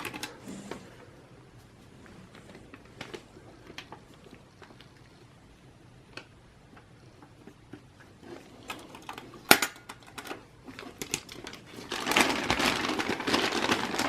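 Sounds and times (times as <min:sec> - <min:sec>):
crinkling rustle: 0:00.0 - 0:05.4, 0:07.2 - 0:14.0.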